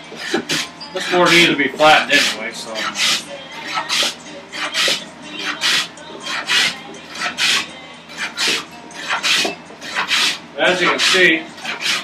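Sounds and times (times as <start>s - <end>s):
hand plane rasping on board: 0.0s - 12.0s.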